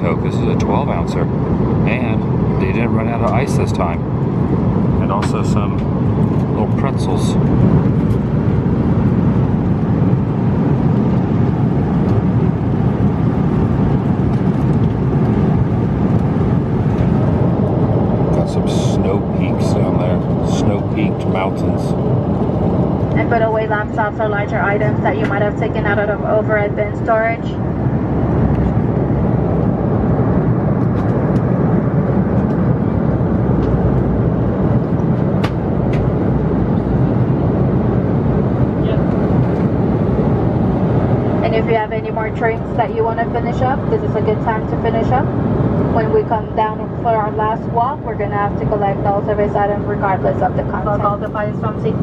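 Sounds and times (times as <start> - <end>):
airliner engines rumbling: 0.0 - 52.0
rushing air in cabin: 0.0 - 52.0.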